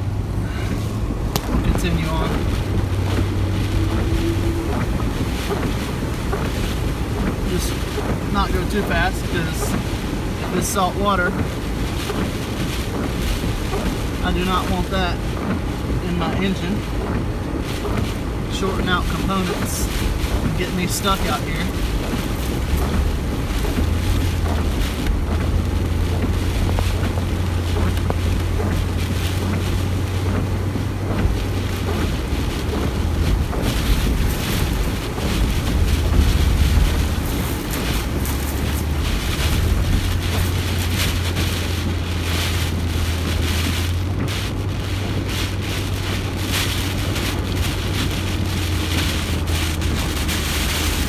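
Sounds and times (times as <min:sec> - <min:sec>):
car engine drone: 0:00.0 - 0:51.0
water washing against car: 0:00.0 - 0:51.0
wind noise: 0:00.0 - 0:51.0.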